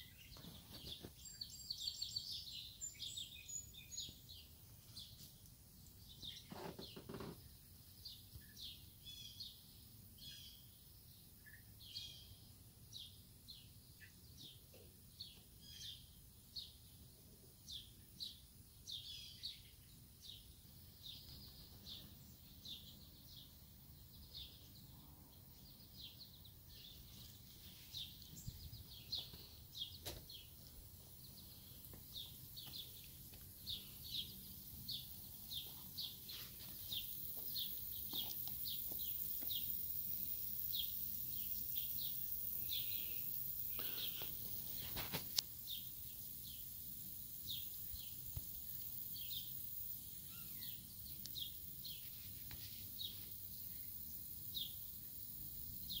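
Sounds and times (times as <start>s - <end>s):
bird chirping: 0.0s - 56.0s
steady high hiss: 0.0s - 56.0s.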